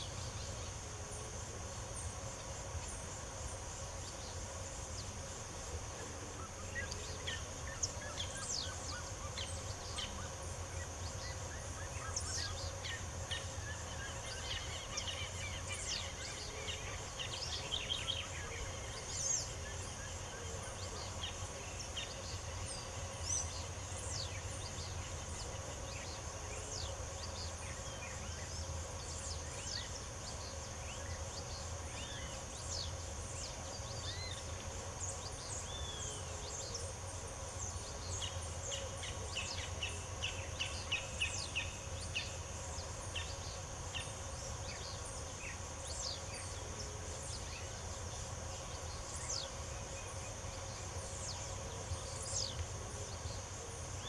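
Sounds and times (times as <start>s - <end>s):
high insect buzz: 0.0s - 54.0s.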